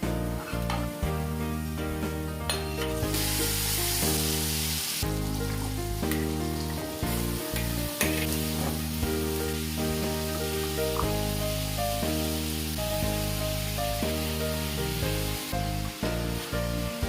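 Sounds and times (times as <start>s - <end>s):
background music: 0.0s - 17.0s
vegetables sizzling in oil: 0.1s - 17.0s.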